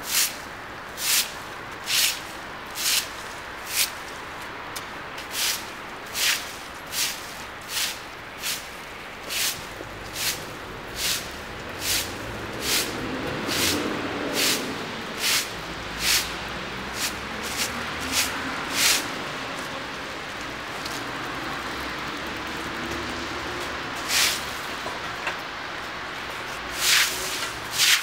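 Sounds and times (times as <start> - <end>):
broom sweeping on pavement: 0.0 - 21.7, 23.2 - 24.8, 26.2 - 28.0.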